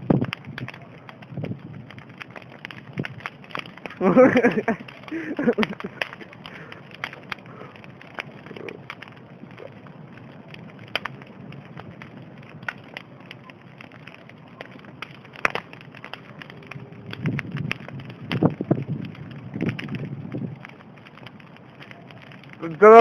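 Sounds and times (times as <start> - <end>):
bonfire crackling: 0.0 - 23.0.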